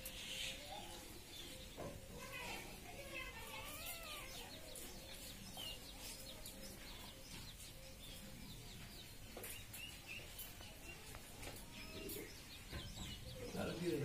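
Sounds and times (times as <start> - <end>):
birds chirping: 0.0 - 14.0
outdoor background noise: 0.0 - 14.0.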